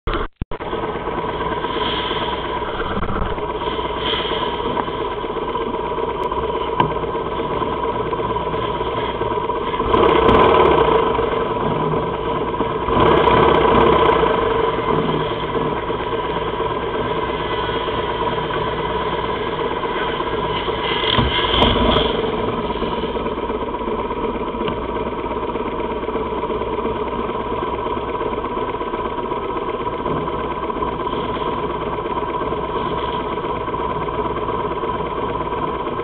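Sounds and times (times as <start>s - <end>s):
motorcycle engines idling and revving: 0.1s - 36.0s.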